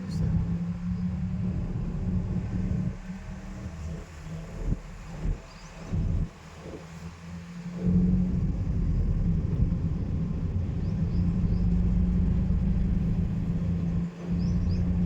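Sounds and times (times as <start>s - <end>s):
car engine and road noise: 0.0s - 15.0s
constant hum: 0.0s - 15.0s.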